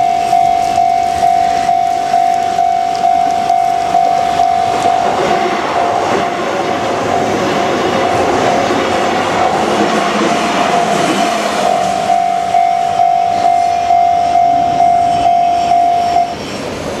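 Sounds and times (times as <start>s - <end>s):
level-crossing alarm clanging: 0.0s - 17.0s
passing train: 0.0s - 17.0s.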